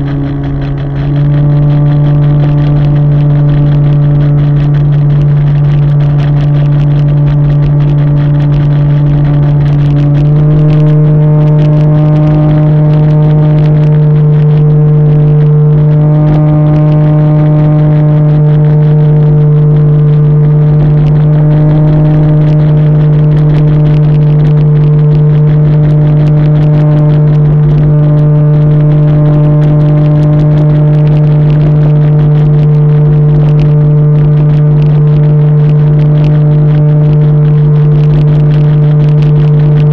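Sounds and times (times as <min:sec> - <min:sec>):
model airplane motor drone: 0:00.0 - 0:39.9.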